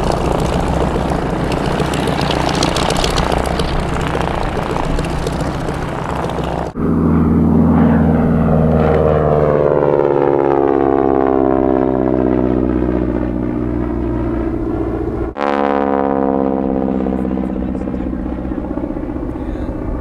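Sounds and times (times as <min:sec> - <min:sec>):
propeller planes droning past: 0:00.0 - 0:20.0.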